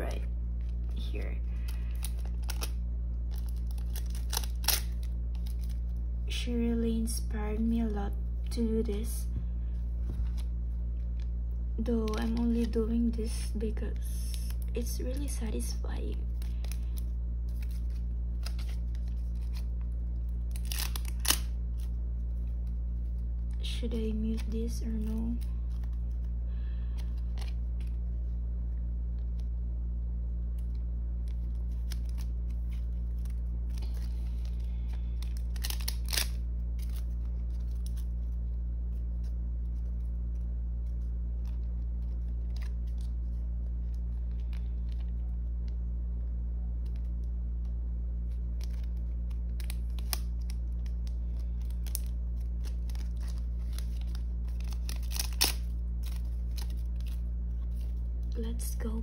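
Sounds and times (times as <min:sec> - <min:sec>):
low hum: 0:00.0 - 0:59.0
plastic sleeves crinkling: 0:00.1 - 0:06.3, 0:09.8 - 0:28.4, 0:30.5 - 0:45.7, 0:46.8 - 0:59.0.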